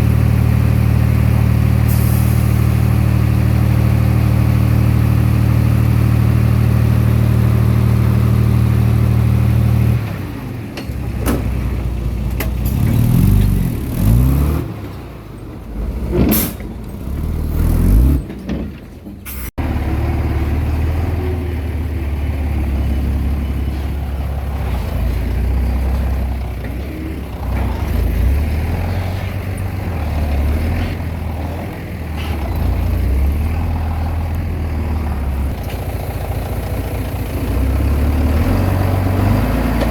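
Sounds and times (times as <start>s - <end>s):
bulldozer diesel engine revving: 0.0s - 18.4s, 19.6s - 39.9s.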